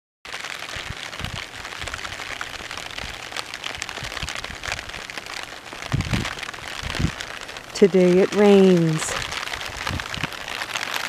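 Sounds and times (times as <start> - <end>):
rain pattering: 0.3 - 11.0.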